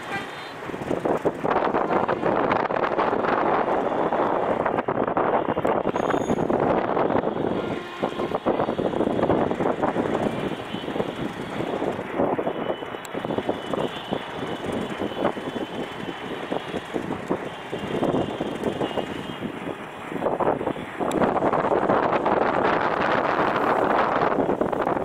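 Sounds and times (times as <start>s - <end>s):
train rumbling slowly: 0.0s - 25.0s.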